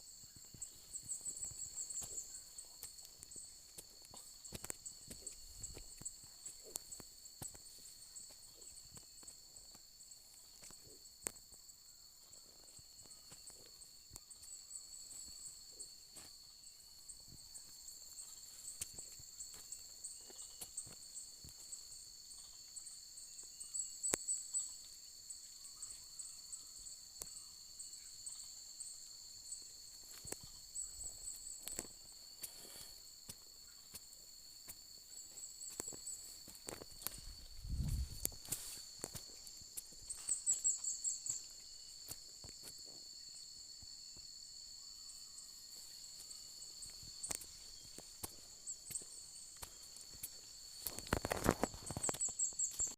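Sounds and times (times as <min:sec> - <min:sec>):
insect chorus: 0:00.0 - 0:52.9
pulsing insect trill: 0:00.0 - 0:52.9.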